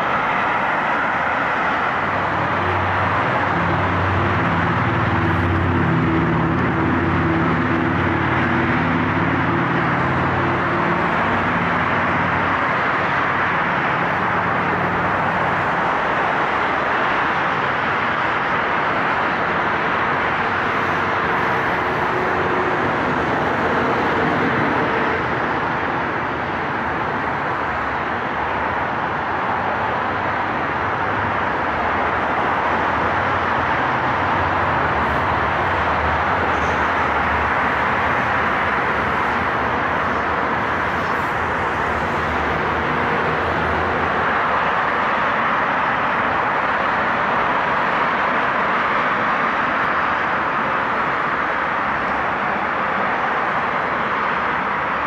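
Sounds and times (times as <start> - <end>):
train wheels rushing on rail: 0.0 - 55.0.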